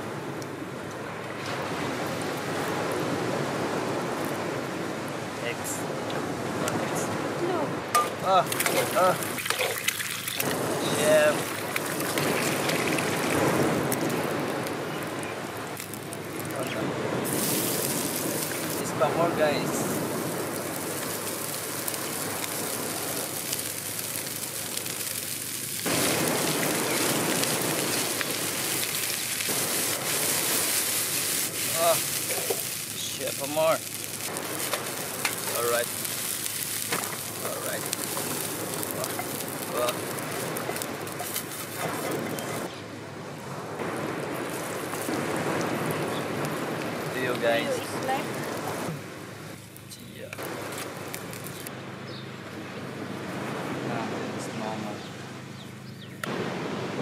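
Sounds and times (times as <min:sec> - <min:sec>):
waves washing onto beach: 0:00.0 - 0:57.0.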